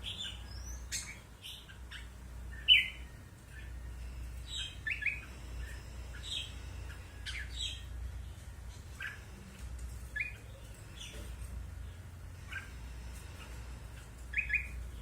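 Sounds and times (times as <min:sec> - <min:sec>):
bird chirping calls: 0:00.0 - 0:15.0.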